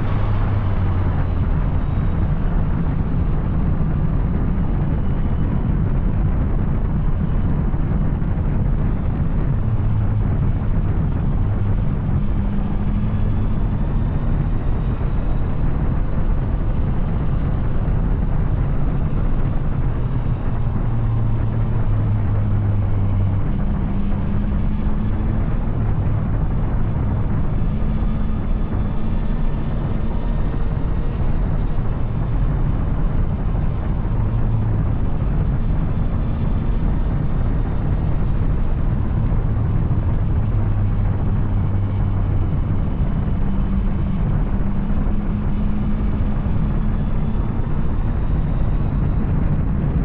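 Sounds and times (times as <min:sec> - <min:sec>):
steady rush of noise: 0:00.0 - 0:50.0.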